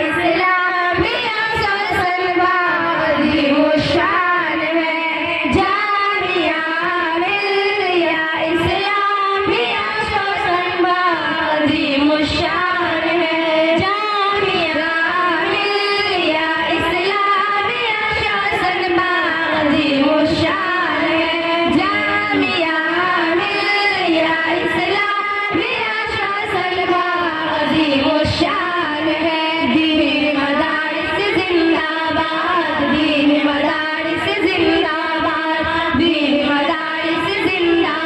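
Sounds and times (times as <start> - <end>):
girls singing into microphones: 0.0 - 38.0.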